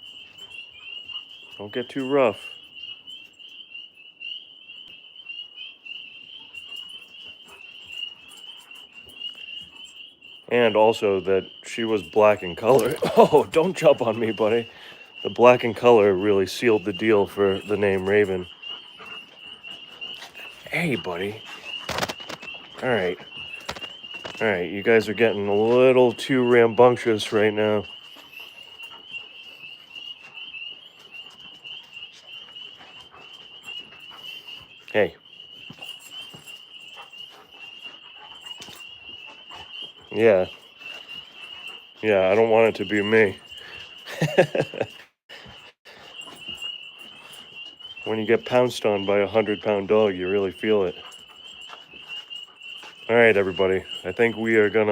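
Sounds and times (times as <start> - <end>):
frogs trilling: 0.0 - 54.9.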